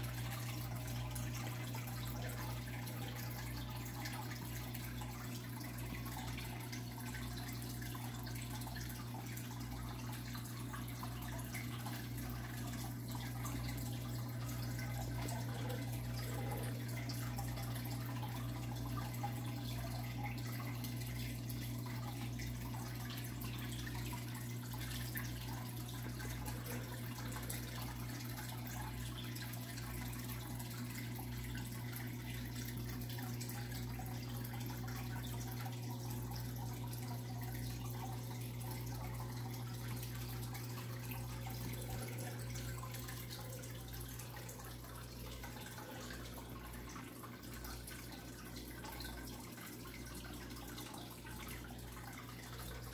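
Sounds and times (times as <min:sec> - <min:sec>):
low equipment hum: 0:00.0 - 0:52.9
water trickling and dripping: 0:00.0 - 0:52.9.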